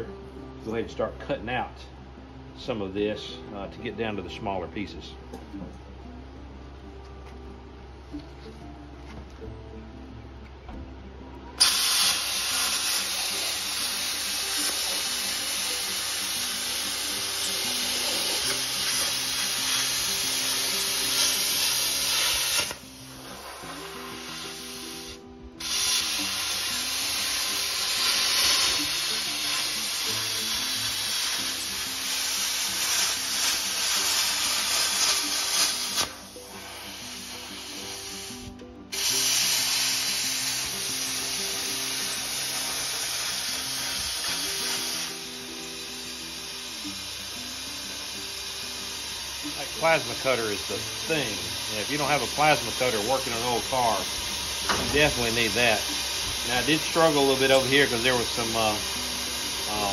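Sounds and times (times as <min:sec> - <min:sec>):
background music: 0:00.0 - 0:59.9
plasma cutter hissing: 0:11.6 - 0:59.9.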